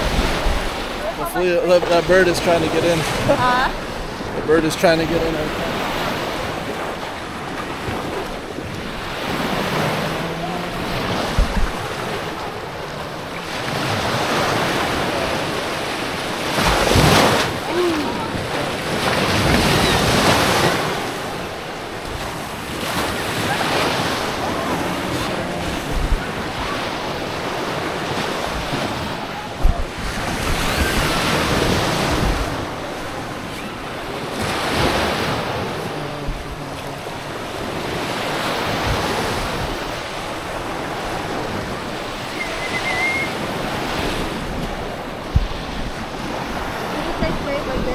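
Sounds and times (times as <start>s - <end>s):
waves breaking on shore: 0.0s - 47.9s
wind buffeting microphone: 0.0s - 47.9s.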